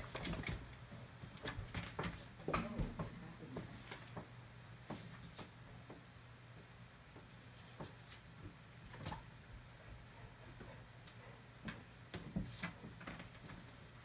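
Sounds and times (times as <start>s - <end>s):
low room tone hum: 0.0s - 14.0s.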